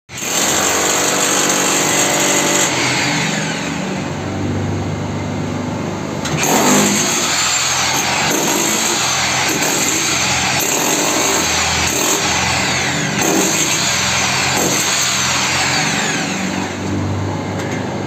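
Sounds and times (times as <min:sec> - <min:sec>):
power tool motor running: 0:00.1 - 0:04.1, 0:06.3 - 0:17.0.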